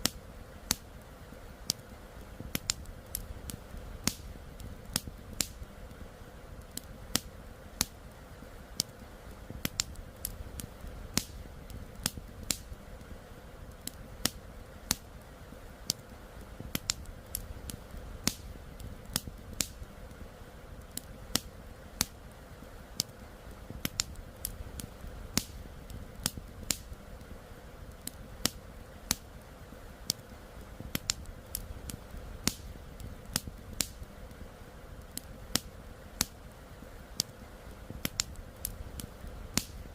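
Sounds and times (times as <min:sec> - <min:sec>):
wood campfire crackling: 0:00.0 - 0:39.9.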